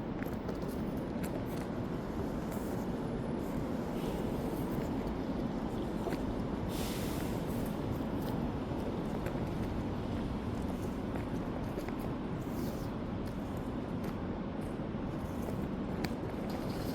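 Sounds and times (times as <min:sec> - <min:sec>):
city street traffic hum: 0:00.0 - 0:16.9.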